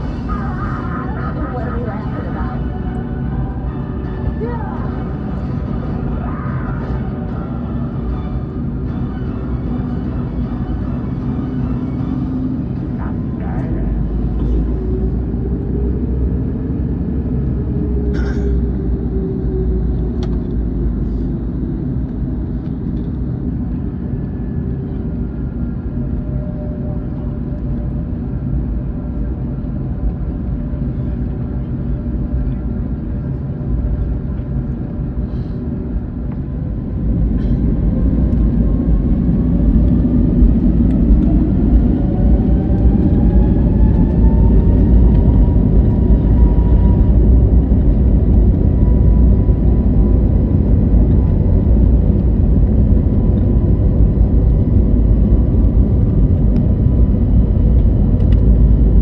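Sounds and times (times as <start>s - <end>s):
heavy cabin rumble: 0.0s - 59.0s
rising engine whine: 0.0s - 59.0s.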